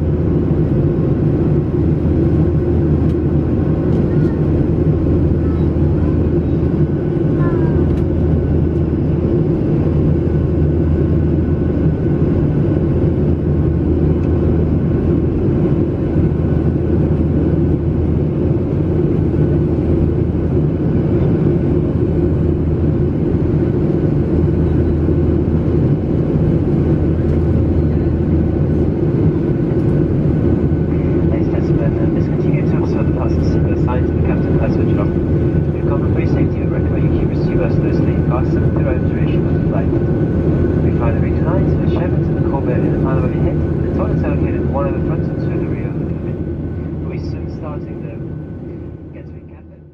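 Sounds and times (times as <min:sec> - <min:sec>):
jet engines heard from cabin: 0:00.0 - 0:49.9.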